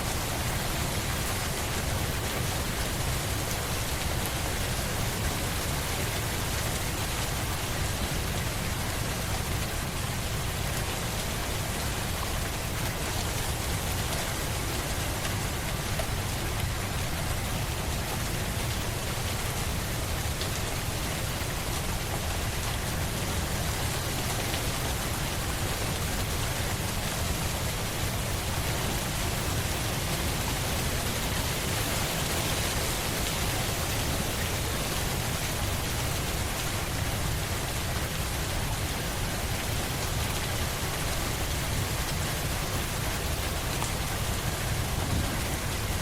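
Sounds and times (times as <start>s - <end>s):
steady rain on a surface: 0.0s - 46.0s.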